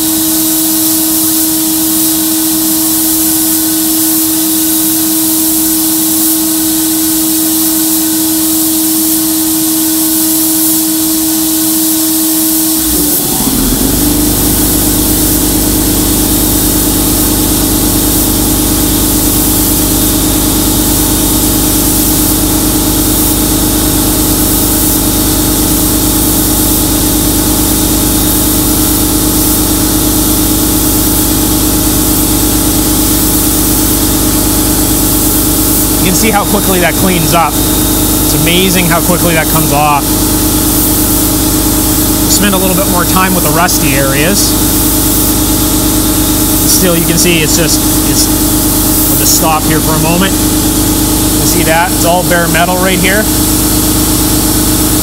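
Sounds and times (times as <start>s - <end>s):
hiss of compressed air and beads: 0.0s - 55.0s
motor low hum: 9.4s - 55.0s
vacuum drone: 9.8s - 55.0s.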